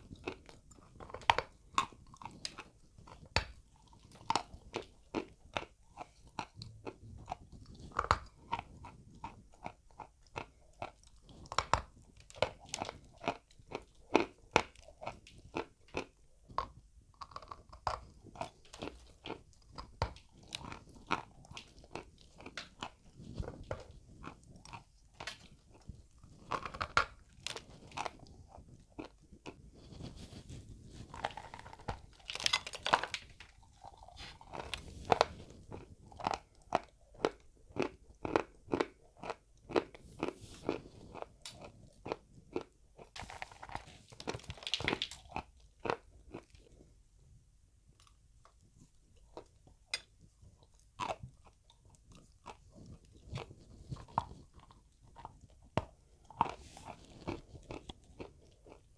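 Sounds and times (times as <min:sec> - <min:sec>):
dry crunching while chewing: 0:00.0 - 0:46.8, 0:48.0 - 0:58.9.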